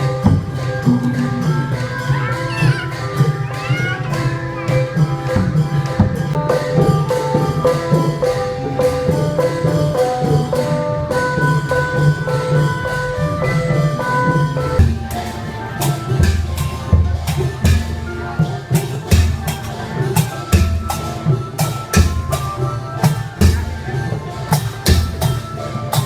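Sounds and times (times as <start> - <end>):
mallet percussion melody: 0.0 - 26.0
percussion beat: 0.0 - 26.0.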